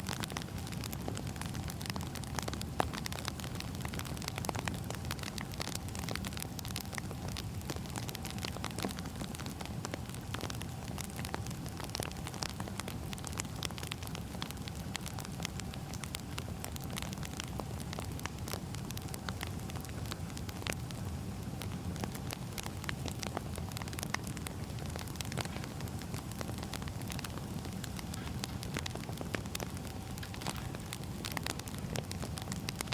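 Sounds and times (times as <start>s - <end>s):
fire crackling and popping: 0.0s - 32.9s
fire low rumble: 0.0s - 32.9s.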